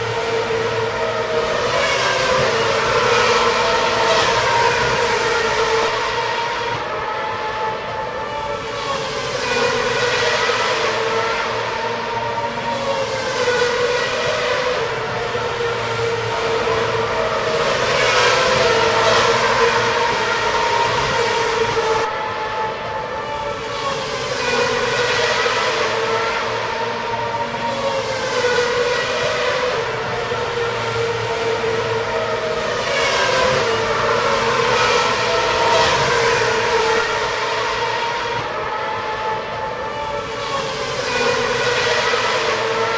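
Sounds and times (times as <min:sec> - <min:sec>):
racing cars passing at high revs: 0:00.0 - 0:42.9.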